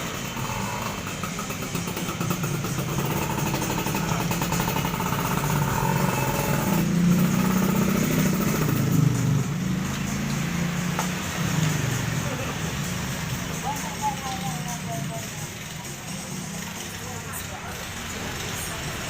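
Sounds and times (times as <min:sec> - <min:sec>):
two-stroke motorcycle engine running: 0:00.0 - 0:19.0.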